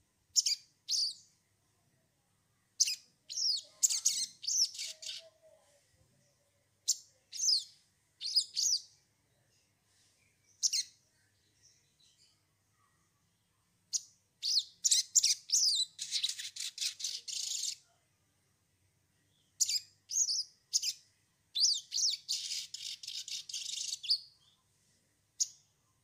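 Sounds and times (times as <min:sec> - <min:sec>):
songbird chirping and trilling: 0:00.3 - 0:01.5, 0:02.6 - 0:18.5, 0:19.1 - 0:26.0.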